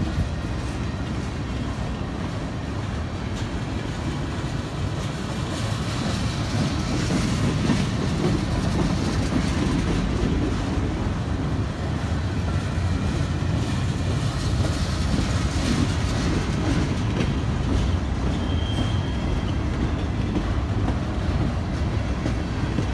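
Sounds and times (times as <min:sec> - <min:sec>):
freight train wheels clickety-clack: 0:00.0 - 0:22.9.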